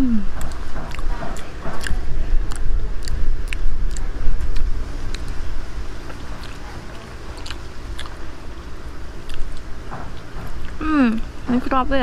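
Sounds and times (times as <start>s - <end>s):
person chewing with mouth smacks: 0.0s - 8.3s, 9.2s - 11.2s.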